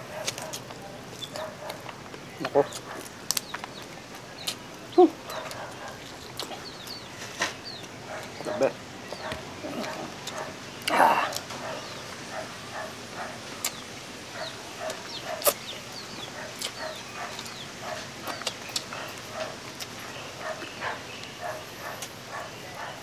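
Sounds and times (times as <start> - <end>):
people eating with hands: 0.0 - 23.0.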